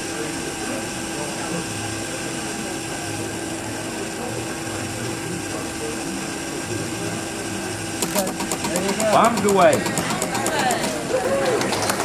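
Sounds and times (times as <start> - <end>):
constant hum: 0.0 - 12.0
mechanical whir: 0.0 - 12.0.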